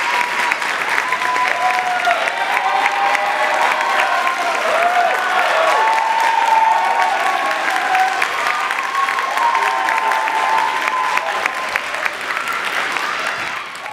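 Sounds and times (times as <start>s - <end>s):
audience applauding: 0.0s - 13.9s
shouts and cheers: 0.0s - 13.9s.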